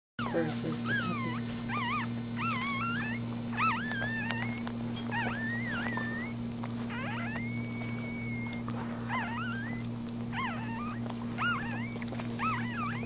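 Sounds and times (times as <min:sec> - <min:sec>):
puppies squeaking and crying: 0:00.2 - 0:13.0.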